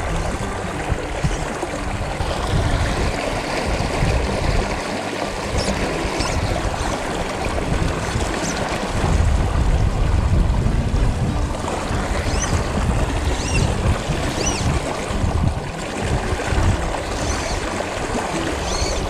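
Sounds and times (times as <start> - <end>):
low rumble on microphone: 0.0 - 19.0
river current rushing: 0.0 - 19.0.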